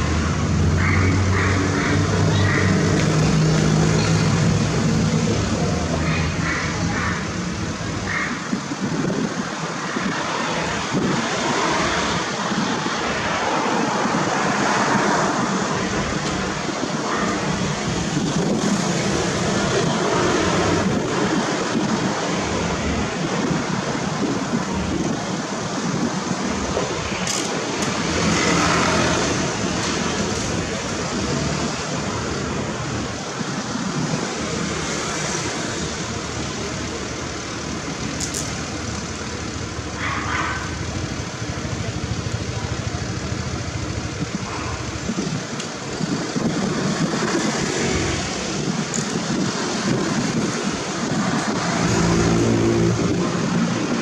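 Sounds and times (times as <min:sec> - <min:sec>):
road traffic engine noise: 0:00.0 - 0:54.0.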